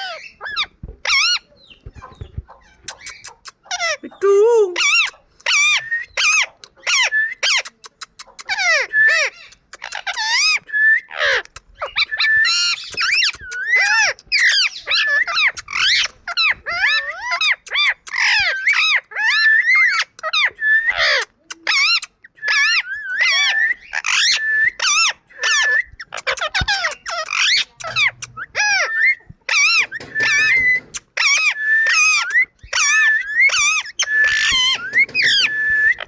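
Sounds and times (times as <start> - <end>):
parrot chattering: 2.6 - 12.0, 12.6 - 36.0.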